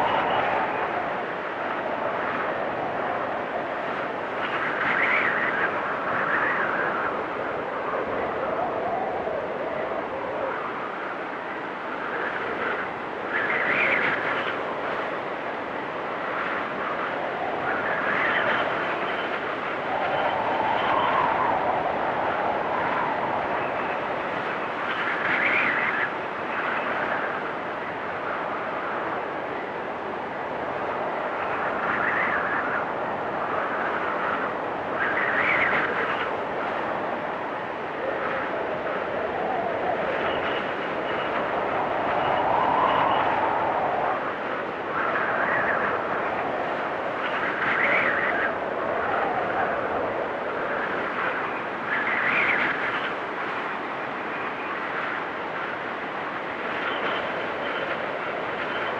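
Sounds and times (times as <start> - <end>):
storm wind gusting and whistling: 0.0 - 58.9.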